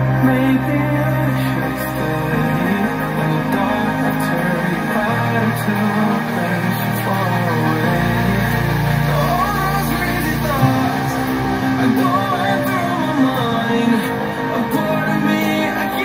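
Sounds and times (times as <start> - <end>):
deep bass note: 0.0 - 15.9
drum and bass song with singing: 0.0 - 16.0.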